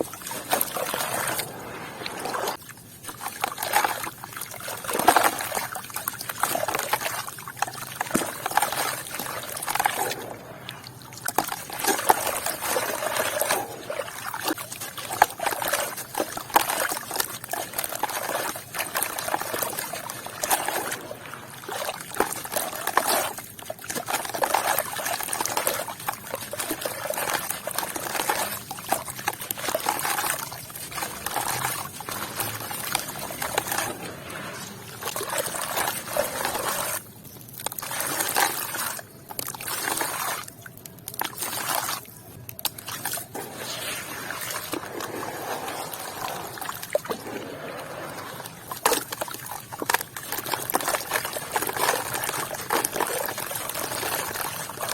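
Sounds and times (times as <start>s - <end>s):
water trickling and sloshing: 0.0s - 54.9s.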